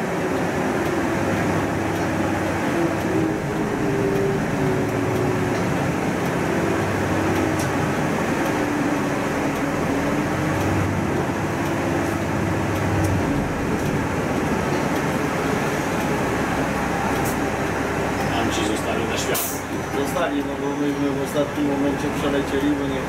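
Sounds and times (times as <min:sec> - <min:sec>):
bus engine hum: 0:00.0 - 0:23.0
road noise inside bus: 0:00.0 - 0:23.0.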